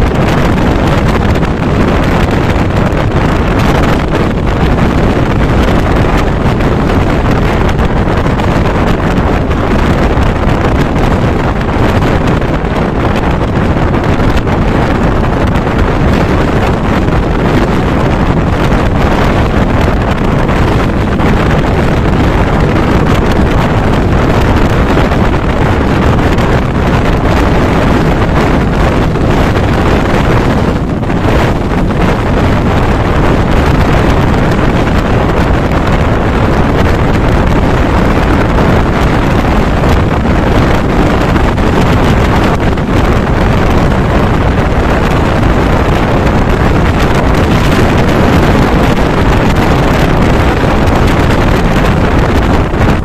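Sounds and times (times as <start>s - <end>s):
train running noise: 0.0s - 53.0s
wind buffeting microphone: 0.0s - 53.0s.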